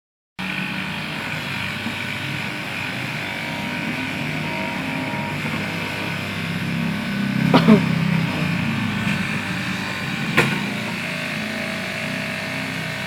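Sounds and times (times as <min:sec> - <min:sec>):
fabric-cutting machine whining: 0:00.4 - 0:13.0.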